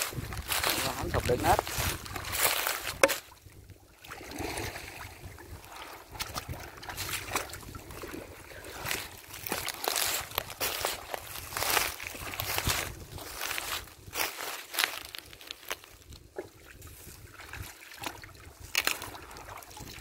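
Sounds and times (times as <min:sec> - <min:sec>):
shallow water sloshing and splashing: 0:00.0 - 0:20.0.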